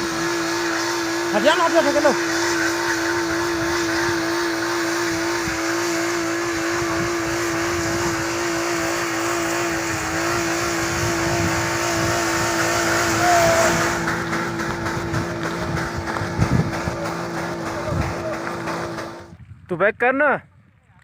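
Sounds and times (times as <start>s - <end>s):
car engine whining: 0.0s - 19.3s
car rumbling on road: 0.0s - 19.3s.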